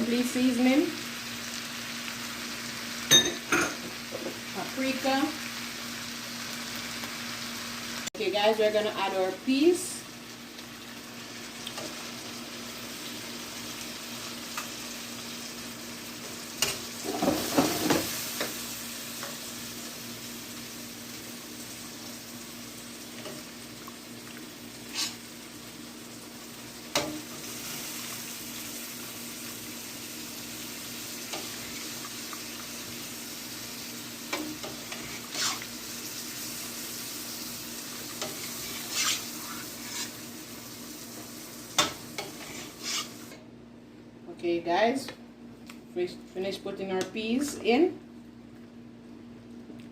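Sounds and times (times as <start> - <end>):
stew sizzling in a pot: 0.0 - 43.5.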